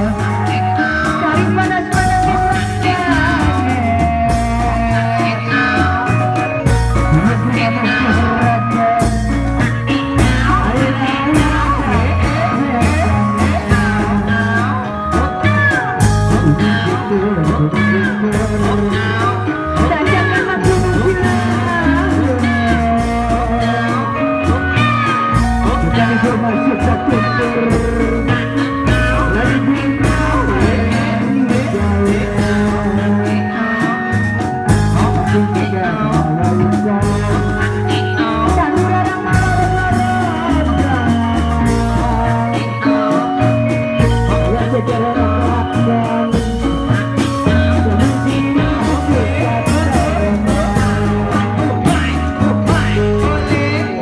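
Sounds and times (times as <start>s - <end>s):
music with singing over loudspeakers: 0.0s - 54.0s.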